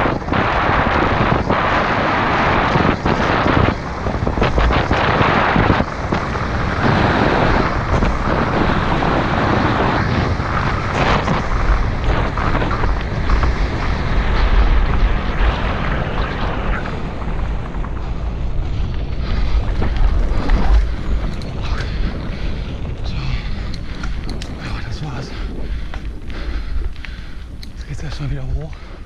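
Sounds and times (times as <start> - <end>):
tyres rumbling on dirt: 0.0 - 29.0
wind buffeting microphone: 0.0 - 29.0.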